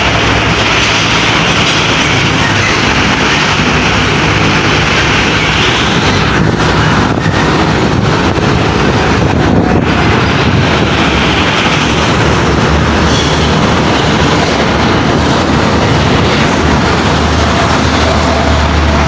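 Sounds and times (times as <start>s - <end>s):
heavy trucks driving past: 0.0s - 19.0s
wind buffeting microphone: 0.0s - 19.0s.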